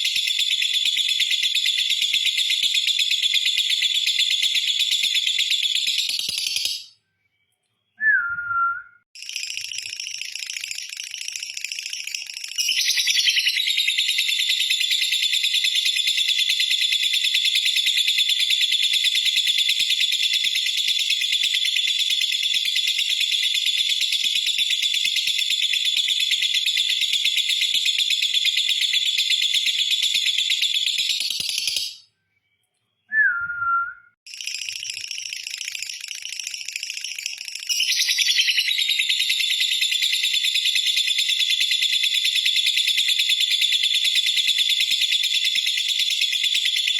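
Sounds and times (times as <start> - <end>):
lovebird shrill rapid trill: 0.0 - 6.9, 9.2 - 32.0, 34.3 - 46.9.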